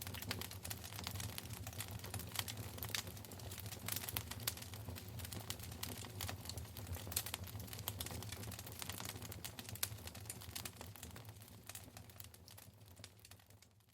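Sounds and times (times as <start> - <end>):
wood fire crackling: 0.0 - 13.9.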